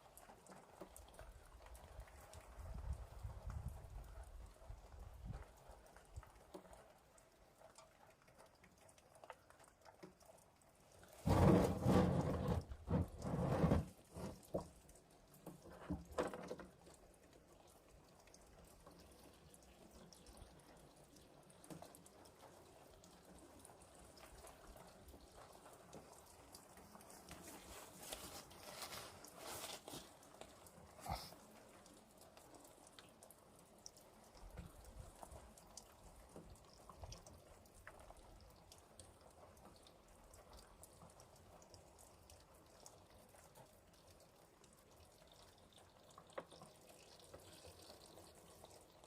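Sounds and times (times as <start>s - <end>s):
oil pouring and dripping: 0.0s - 49.0s.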